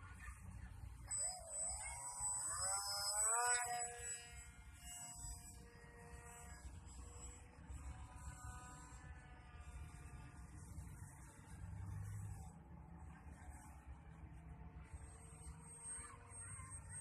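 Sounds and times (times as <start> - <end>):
model plane motor buzzing: 0.0 - 17.0.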